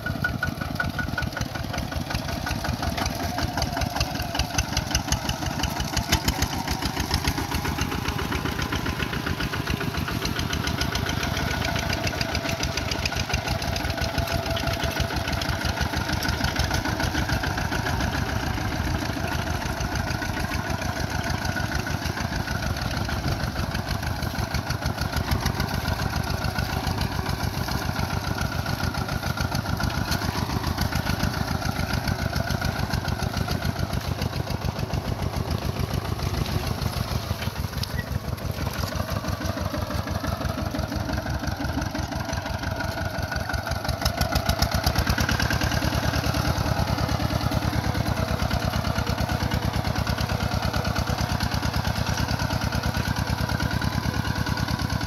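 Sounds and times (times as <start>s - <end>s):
diesel tractor engine chugging: 0.0s - 55.0s.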